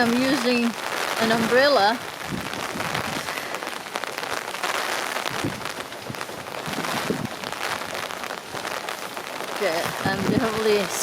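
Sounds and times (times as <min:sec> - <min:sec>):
heavy rain drumming on umbrella: 0:00.0 - 0:11.0
wind buffeting microphone: 0:00.0 - 0:11.0.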